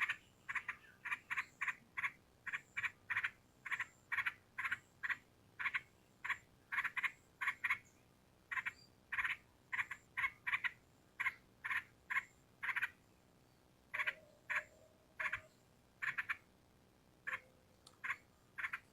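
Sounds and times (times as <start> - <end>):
bird chattering calls: 0.0 - 7.9, 8.5 - 13.0, 13.9 - 16.5, 17.3 - 18.9.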